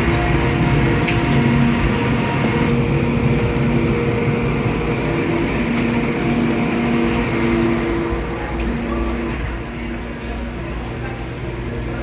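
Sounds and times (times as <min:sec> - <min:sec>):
monorail car rumble: 0:00.0 - 0:12.0.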